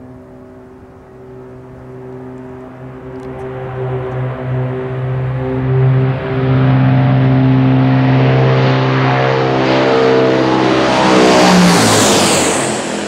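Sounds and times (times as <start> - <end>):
propeller aircraft passing overhead: 0.0 - 13.0.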